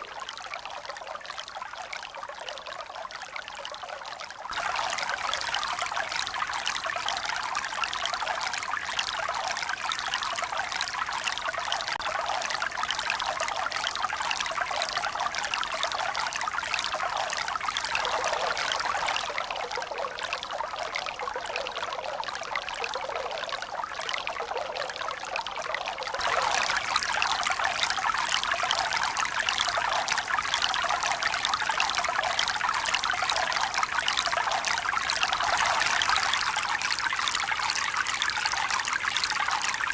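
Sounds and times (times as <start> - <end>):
running water: 0.0 - 2.9, 4.4 - 20.0, 26.2 - 39.9.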